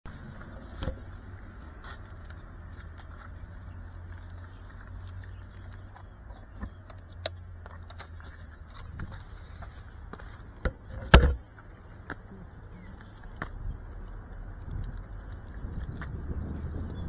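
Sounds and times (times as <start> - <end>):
low street ambience rumble: 0.1 - 17.0.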